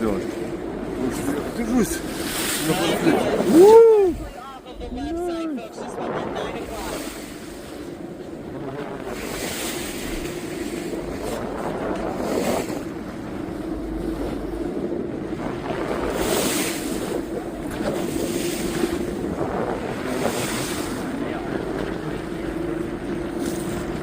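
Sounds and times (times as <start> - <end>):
boat engine running: 0.0 - 24.0
water rushing against hull: 0.0 - 24.0
wind on microphone: 0.0 - 24.0.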